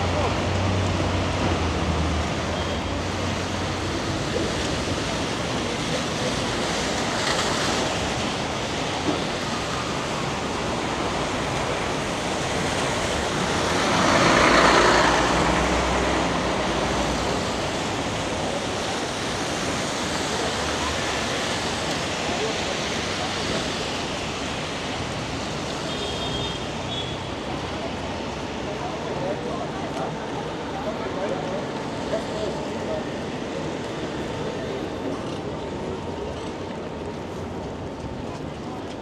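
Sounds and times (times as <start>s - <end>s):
rain: 0.0s - 39.0s
tyres swishing on wet road: 0.0s - 39.0s.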